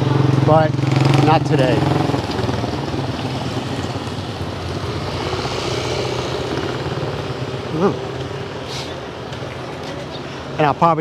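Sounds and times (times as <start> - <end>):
small motorcycle engines droning: 0.0 - 11.0
street noise: 0.0 - 11.0.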